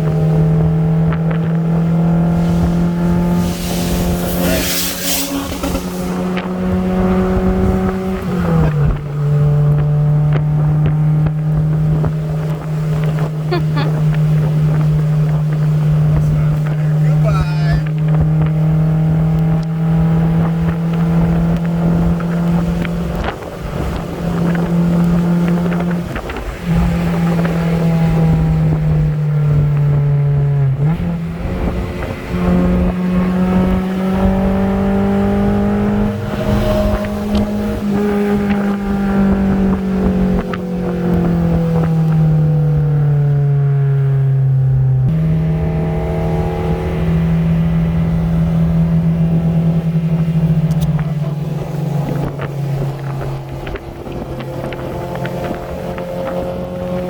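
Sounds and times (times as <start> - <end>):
car engine running hard: 0.0 - 57.0.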